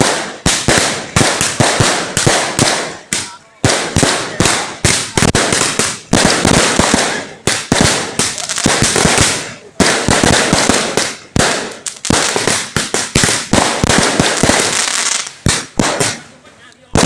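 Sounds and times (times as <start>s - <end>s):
firecrackers banging: 0.0s - 17.0s
fireworks crackling: 0.0s - 17.0s.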